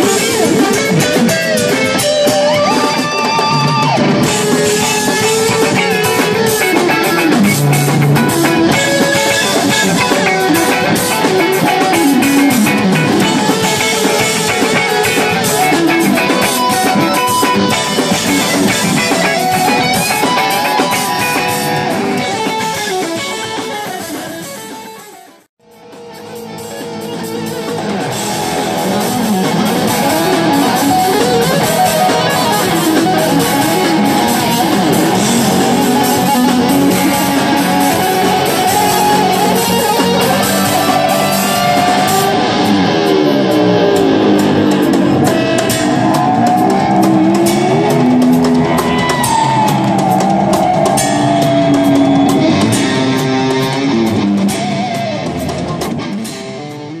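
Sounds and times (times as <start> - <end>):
distorted electric guitar lead: 0.0 - 57.0
live rock band: 0.0 - 57.0.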